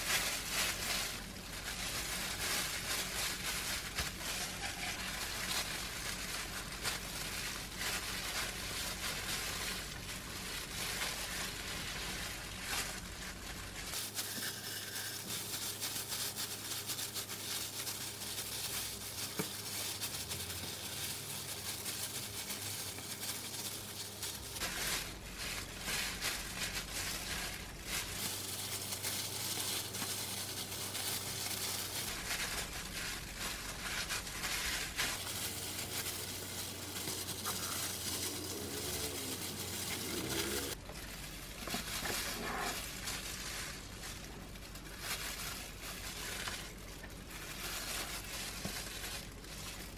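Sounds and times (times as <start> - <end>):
plastic gloves crinkling: 0.0 - 49.9
seaweed sheets rustling: 0.0 - 49.9.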